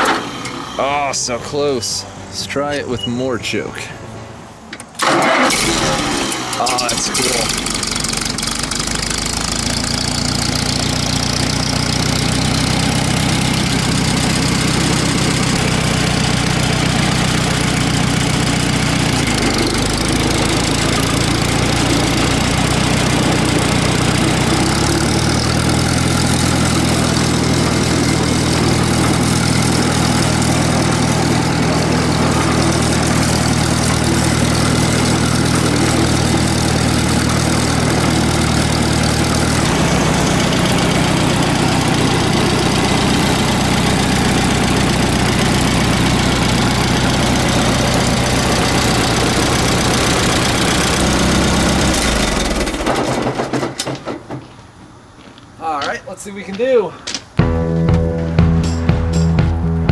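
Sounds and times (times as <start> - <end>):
tractor engine running: 0.0 - 55.6.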